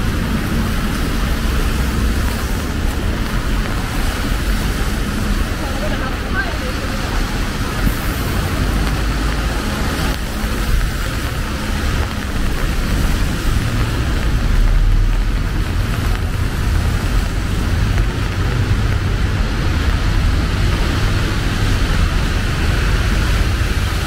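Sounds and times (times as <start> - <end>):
city traffic rumble: 0.0 - 24.0
rain hissing: 0.0 - 24.0.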